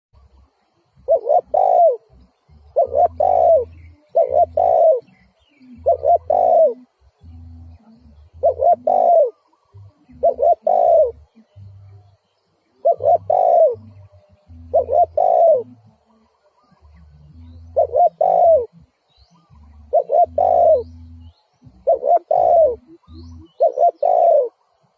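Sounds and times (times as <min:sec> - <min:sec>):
dove cooing: 0:01.0 - 0:11.8, 0:12.7 - 0:24.6.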